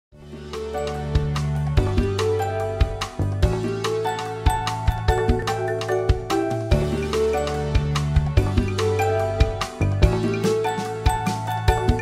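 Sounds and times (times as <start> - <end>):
light instrumental music: 0.1 - 12.0.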